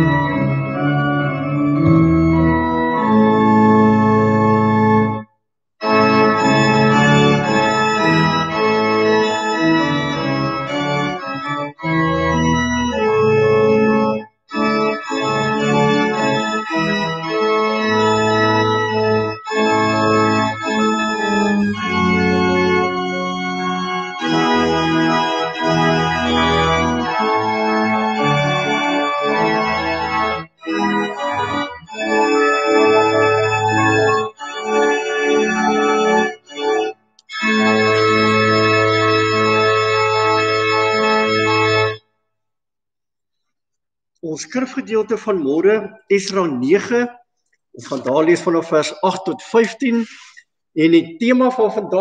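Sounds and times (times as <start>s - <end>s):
organ playing hymn chords: 0.0s - 42.0s, 44.2s - 47.1s, 47.8s - 52.0s.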